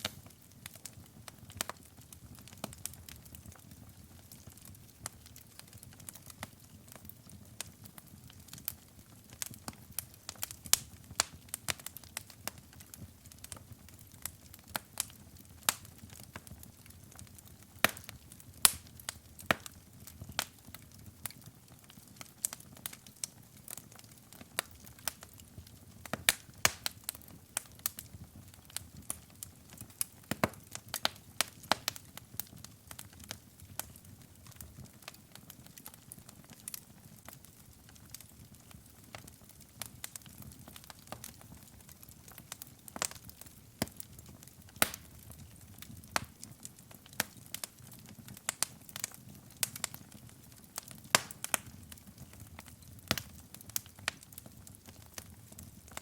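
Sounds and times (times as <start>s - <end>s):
soft low hiss: 0.0s - 56.0s
wood fire crackling and popping: 0.0s - 56.0s.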